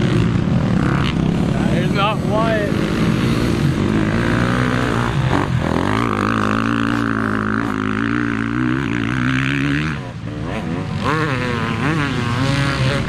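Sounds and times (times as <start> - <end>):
dirt bike engine droning: 0.0 - 13.0.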